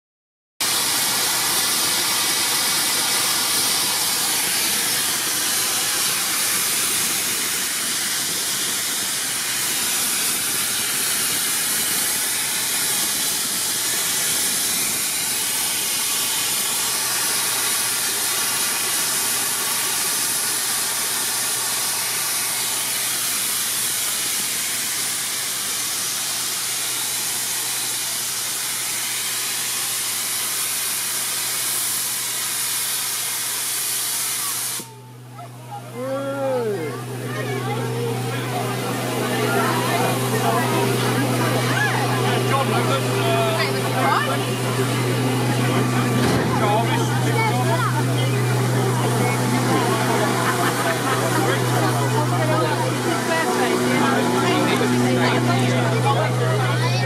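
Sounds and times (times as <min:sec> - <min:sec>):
steam locomotive blowing off steam: 0:00.6 - 0:57.0.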